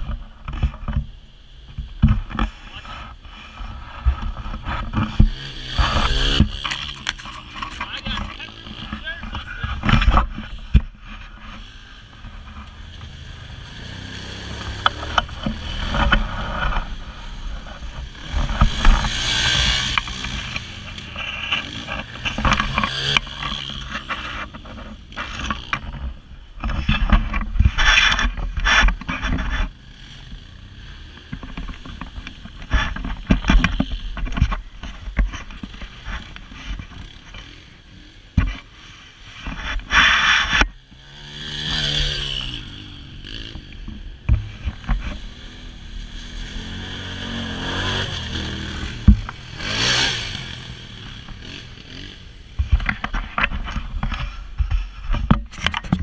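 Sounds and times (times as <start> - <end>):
atv engine surging: 0.0 - 56.0.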